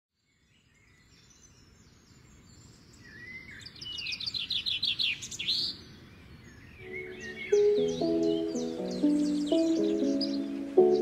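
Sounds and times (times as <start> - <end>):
songbird singing: 0.2 - 11.0
faint background hiss: 0.7 - 11.0.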